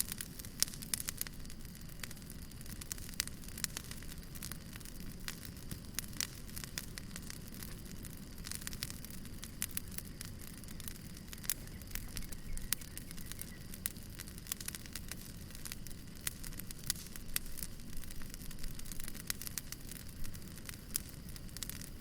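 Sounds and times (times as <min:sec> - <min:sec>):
low rumble of burning: 0:00.0 - 0:22.0
wood fire pops and snaps: 0:00.0 - 0:22.0.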